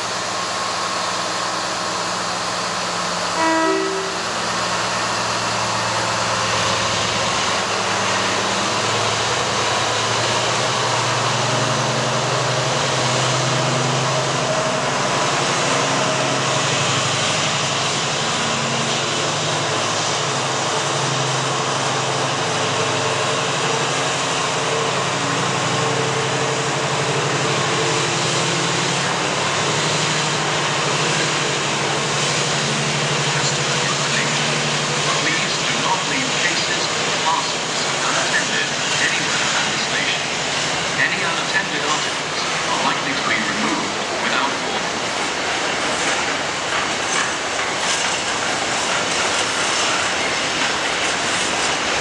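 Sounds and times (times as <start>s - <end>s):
diesel locomotive engine drone: 0.0s - 52.0s
rush of train wheels: 0.0s - 52.0s.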